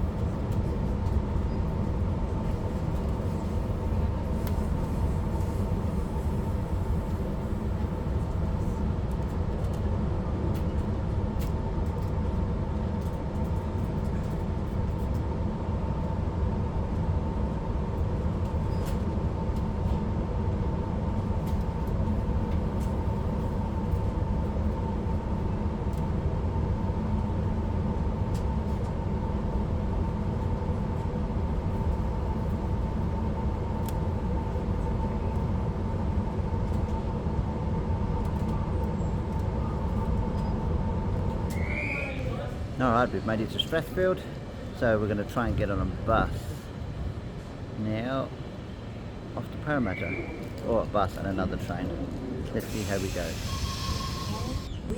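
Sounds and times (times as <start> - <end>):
electric train rumble and whine: 0.0 - 54.9.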